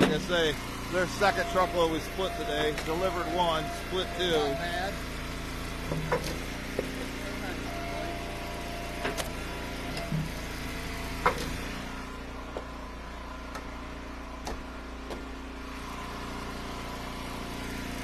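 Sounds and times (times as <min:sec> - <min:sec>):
wood splitter engine running: 0:00.0 - 0:18.0.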